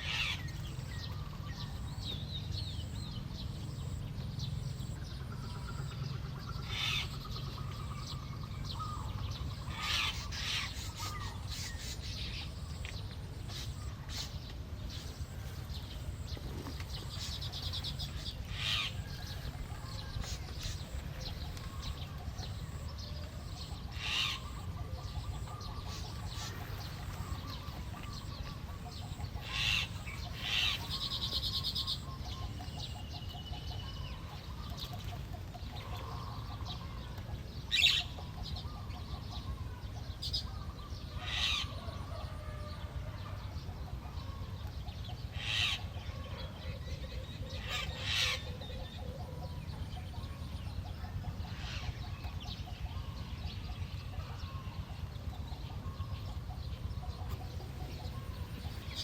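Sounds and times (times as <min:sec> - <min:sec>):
small birds chirping: 0:00.0 - 0:41.8, 0:44.2 - 0:59.0
low rumble of wind: 0:00.0 - 0:59.0.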